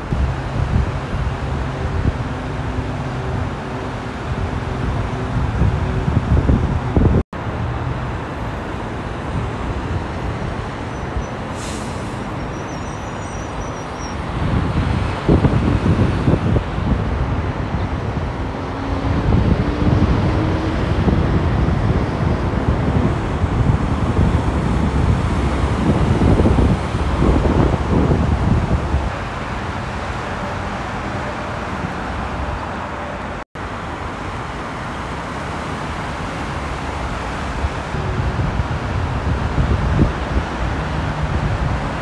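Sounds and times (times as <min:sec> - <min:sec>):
freeway traffic rumble: 0:00.0 - 0:42.0
trucks passing close: 0:00.0 - 0:42.0.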